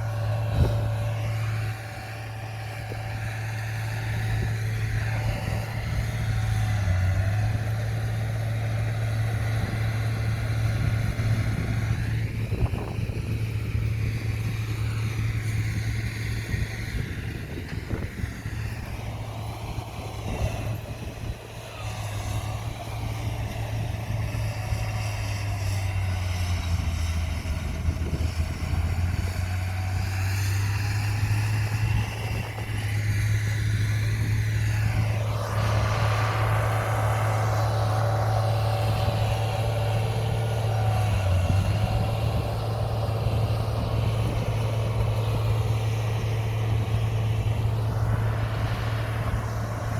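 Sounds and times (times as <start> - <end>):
bulldozer diesel engine: 0.0 - 49.9.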